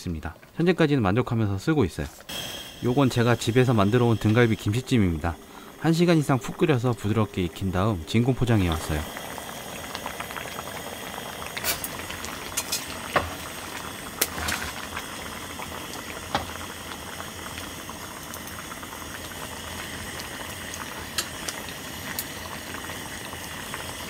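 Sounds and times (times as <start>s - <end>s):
stew bubbling and hissing: 1.8s - 24.0s.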